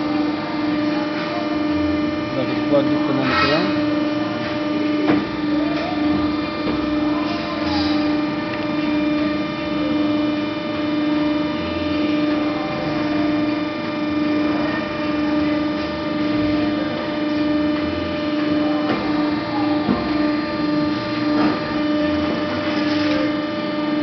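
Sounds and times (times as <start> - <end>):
hydraulic pump motor humming: 0.0 - 24.0.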